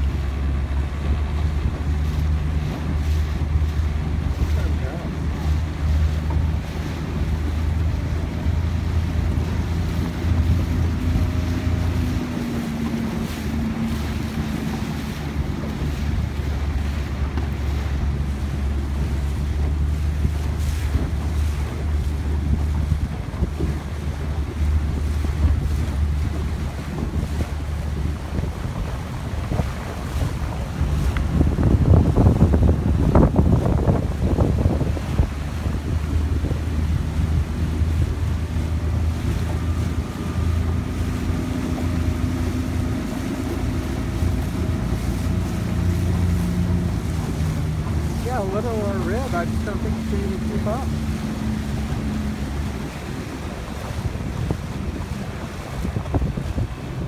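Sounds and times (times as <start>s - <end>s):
choppy water splashing: 0.0s - 57.0s
steady low rumble: 0.0s - 57.0s
wind buffeting microphone: 0.0s - 57.0s.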